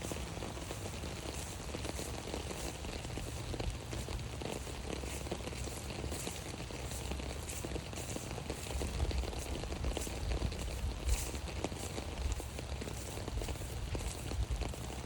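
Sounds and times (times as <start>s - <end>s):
rain on an umbrella: 0.0s - 15.0s.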